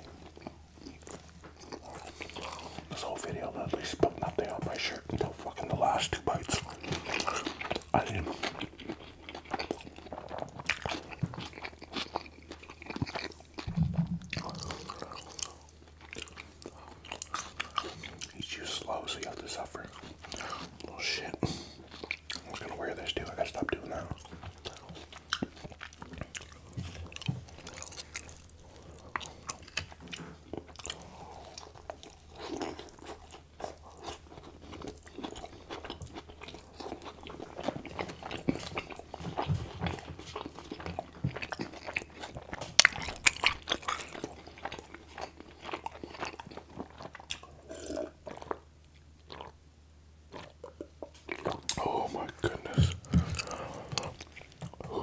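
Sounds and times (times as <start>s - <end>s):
chewing crunchy fried chicken: 0.0s - 55.0s.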